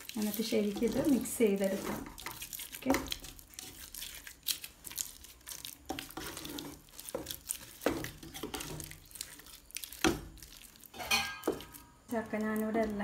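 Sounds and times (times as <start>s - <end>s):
spatula scraping a metal pot: 0.0s - 11.9s.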